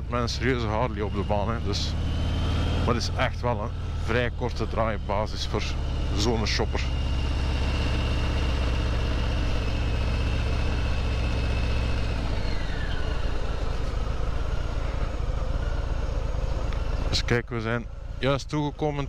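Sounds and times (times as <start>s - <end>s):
motorcycle engine at low speed: 0.0s - 19.0s.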